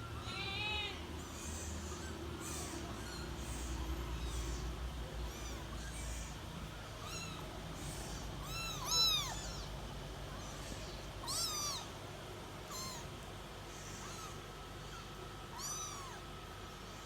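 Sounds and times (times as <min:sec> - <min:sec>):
electric fan humming: 0:00.0 - 0:17.0
kittens mewing: 0:00.0 - 0:17.0.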